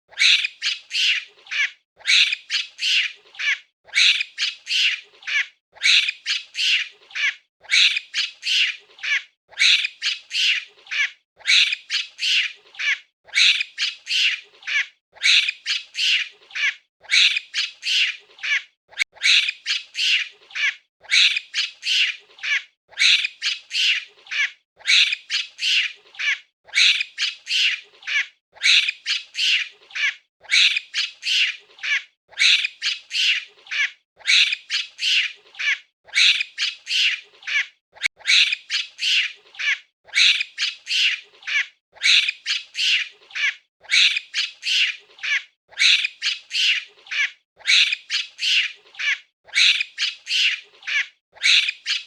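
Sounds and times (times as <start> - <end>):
monkey calling: 0.1 - 52.0.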